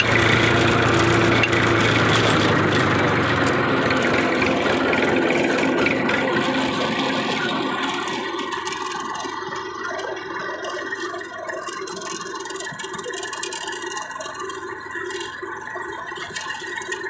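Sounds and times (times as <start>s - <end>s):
tractor diesel engine drone: 0.0s - 17.0s.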